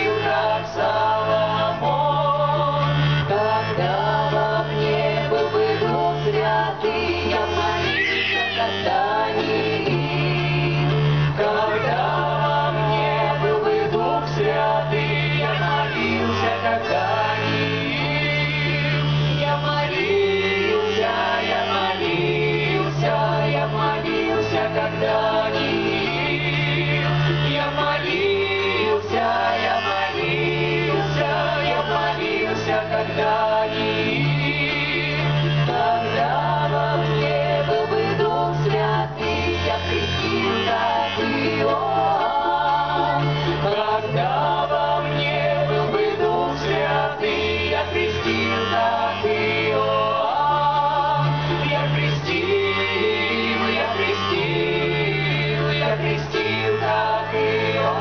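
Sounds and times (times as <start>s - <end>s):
accordion: 0.0s - 58.0s
choir singing in harmony: 0.0s - 58.0s.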